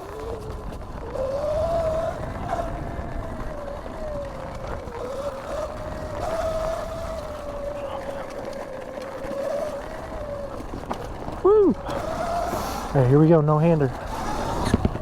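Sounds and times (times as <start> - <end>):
electric motorbike motor whine: 0.0 - 15.0.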